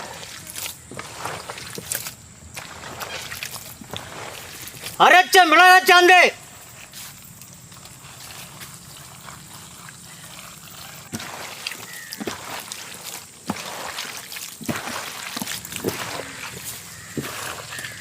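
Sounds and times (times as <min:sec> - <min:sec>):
wet paste pouring and splatting: 0:00.0 - 0:05.0, 0:07.8 - 0:18.0.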